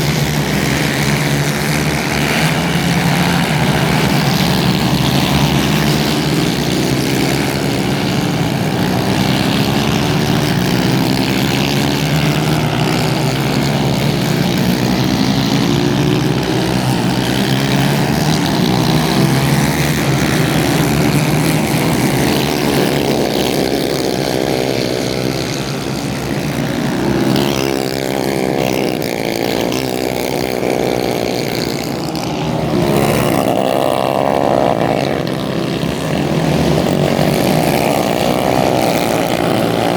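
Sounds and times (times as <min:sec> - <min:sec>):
racing kart engines: 0:00.0 - 0:39.9.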